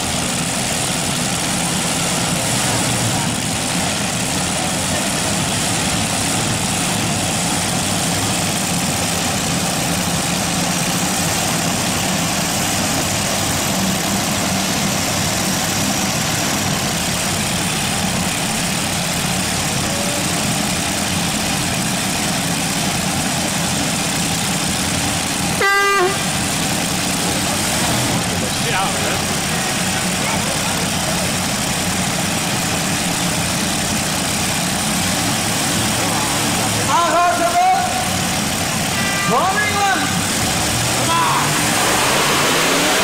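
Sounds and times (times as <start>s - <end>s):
tractor engine idling: 0.0s - 43.0s.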